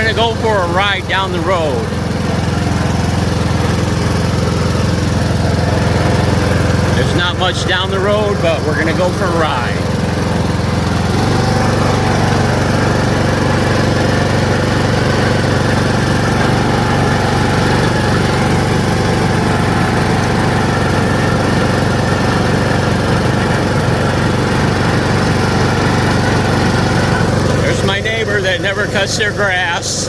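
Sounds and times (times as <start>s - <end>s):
riding lawn mower engine drone: 0.0s - 30.0s.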